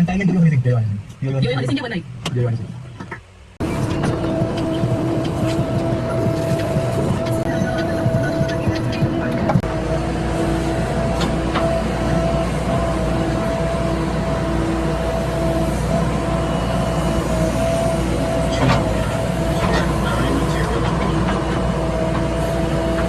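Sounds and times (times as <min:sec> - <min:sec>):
steady whine: 0:00.0 - 0:23.0
diesel engine running: 0:02.9 - 0:23.0.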